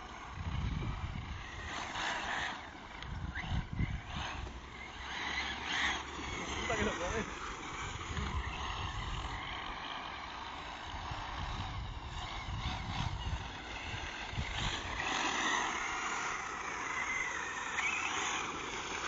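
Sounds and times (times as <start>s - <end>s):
rc car electric motor whining: 0.0s - 19.0s.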